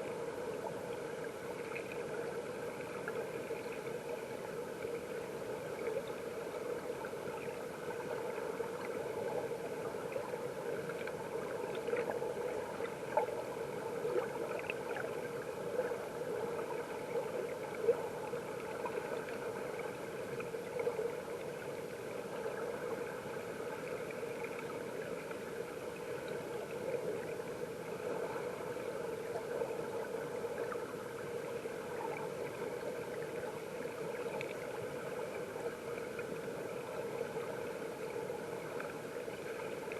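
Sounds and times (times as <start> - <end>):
faint ticks: 0.0 - 27.6, 28.2 - 39.9
muffled underwater stream rushing: 0.0 - 39.9.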